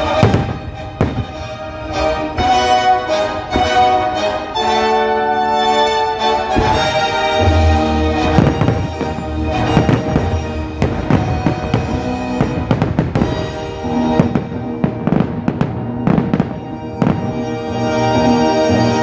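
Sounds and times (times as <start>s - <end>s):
fireworks bangs and crackles: 0.0s - 19.0s
show music: 0.0s - 19.0s.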